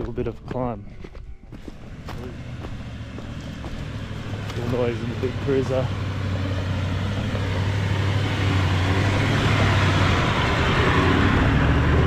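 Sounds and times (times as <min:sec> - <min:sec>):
diesel engine pulling uphill: 0:00.0 - 0:12.0.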